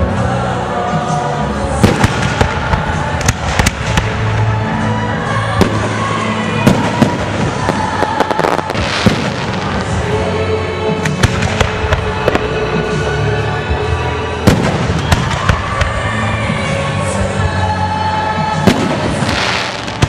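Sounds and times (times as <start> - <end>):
music with held notes: 0.0 - 20.0
fireworks bangs and crackles: 1.6 - 16.7, 18.5 - 20.0.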